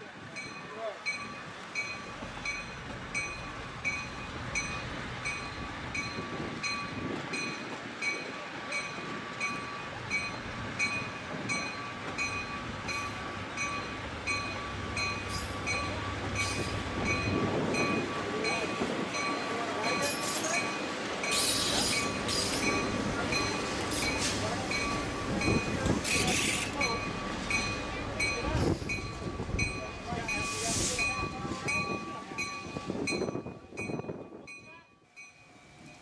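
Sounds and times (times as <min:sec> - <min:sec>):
train cars rumbling past: 0:00.0 - 0:36.0.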